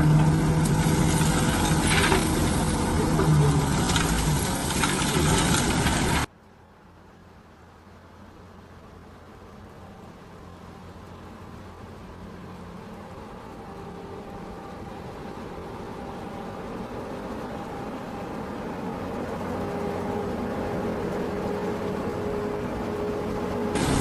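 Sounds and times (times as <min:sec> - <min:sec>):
heavy machine engine running: 0:00.0 - 0:06.3, 0:10.2 - 0:24.0
held whine: 0:00.0 - 0:06.3, 0:09.2 - 0:24.0.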